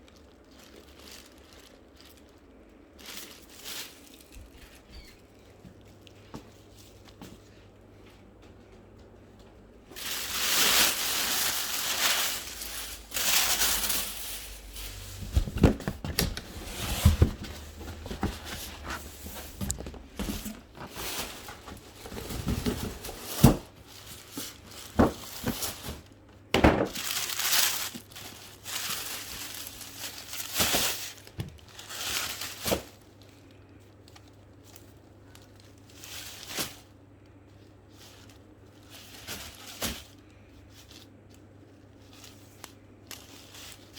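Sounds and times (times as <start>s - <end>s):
packaging wrap crinkling: 0.0s - 6.1s, 9.9s - 43.9s.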